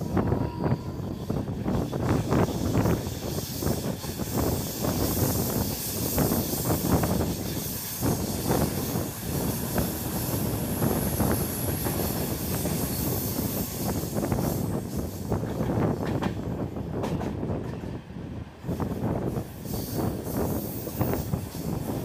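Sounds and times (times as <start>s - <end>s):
train rumble: 0.0s - 22.0s
wind rushing past: 0.0s - 22.0s.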